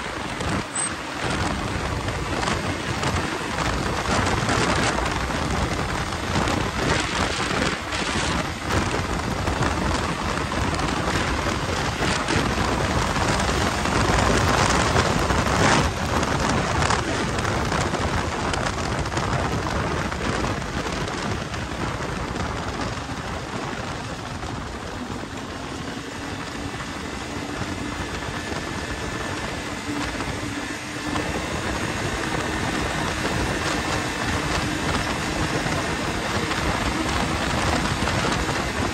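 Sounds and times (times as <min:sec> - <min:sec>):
snowmobile engine hum: 0:00.0 - 0:38.9
wind on microphone: 0:00.0 - 0:38.9.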